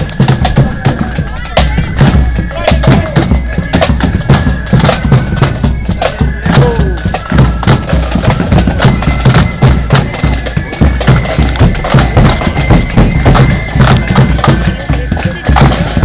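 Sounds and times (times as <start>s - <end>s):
held wind melody: 0.0s - 16.0s
snare and bass drum strokes: 0.0s - 16.0s.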